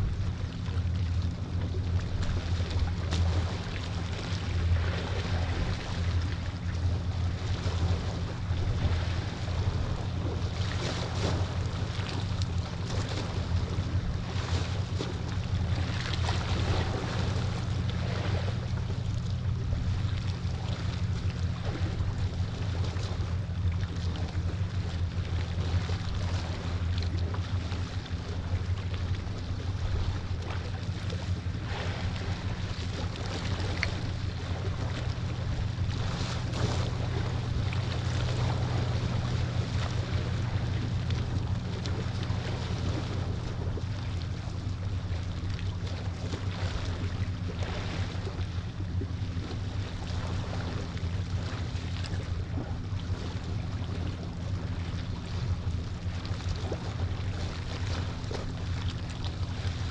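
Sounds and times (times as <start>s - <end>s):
steady low hum: 0.0s - 59.9s
waves at the shore: 0.0s - 59.9s.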